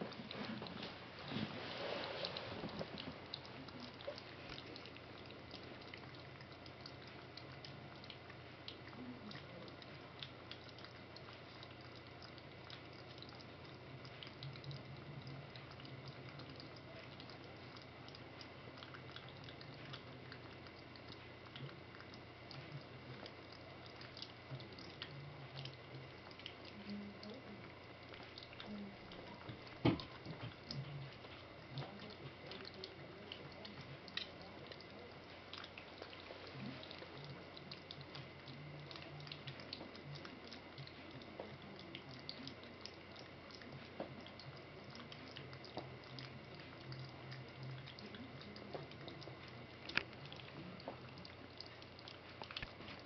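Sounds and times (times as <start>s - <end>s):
puppies lapping from a bowl: 0.0s - 53.0s.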